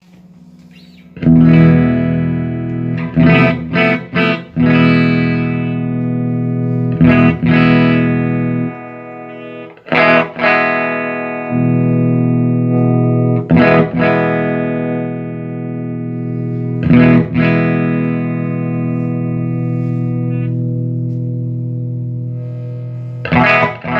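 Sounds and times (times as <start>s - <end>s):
electric guitar chords: 0.0s - 23.9s.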